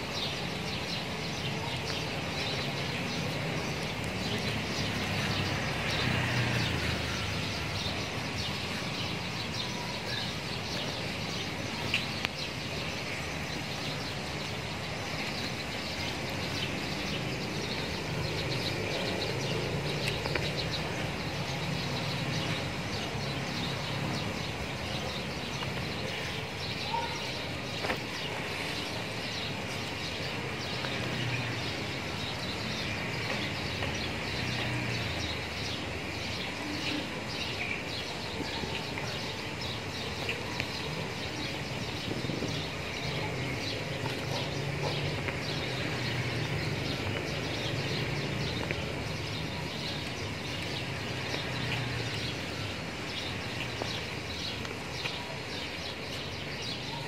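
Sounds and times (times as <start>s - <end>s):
distant traffic rumble: 0.0s - 57.0s.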